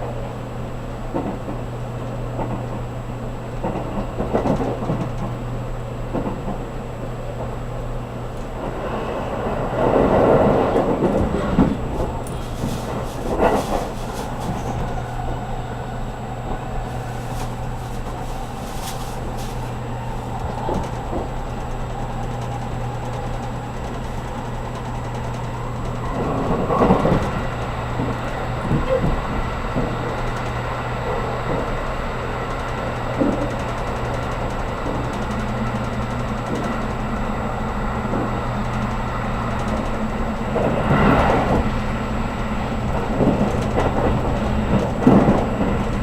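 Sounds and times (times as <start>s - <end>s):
train low hum: 0.0s - 46.0s
wheels rumbling on rail: 0.0s - 46.0s.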